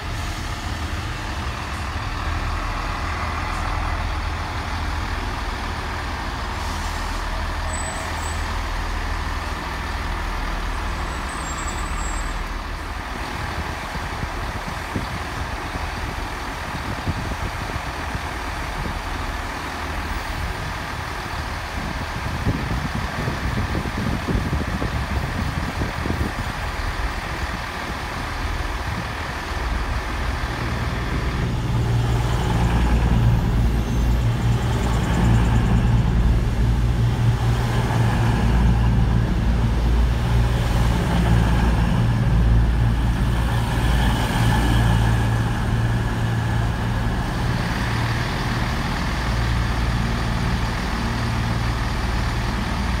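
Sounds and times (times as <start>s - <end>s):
train diesel engines droning: 0.0s - 53.0s.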